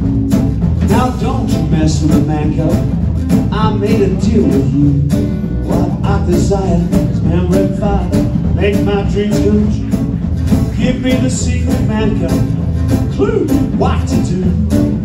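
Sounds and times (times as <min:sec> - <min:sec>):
double bass: 0:00.0 - 0:15.0
drum kit beat: 0:00.0 - 0:15.0
strummed guitar: 0:00.0 - 0:15.0
man singing: 0:00.8 - 0:02.9, 0:03.5 - 0:15.0.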